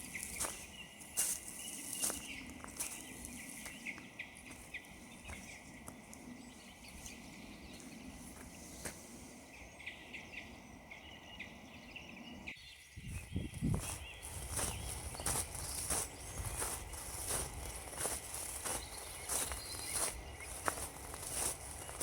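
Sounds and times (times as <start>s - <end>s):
footsteps on frozen ground: 0.0s - 9.1s, 13.1s - 22.0s
faint bird chirps: 0.0s - 22.0s.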